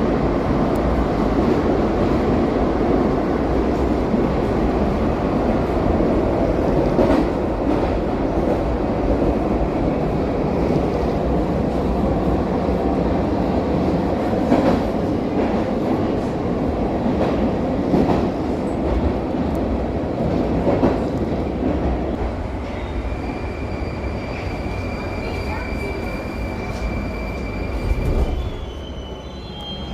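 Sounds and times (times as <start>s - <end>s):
metro train rumbling in tunnel: 0.0s - 29.9s.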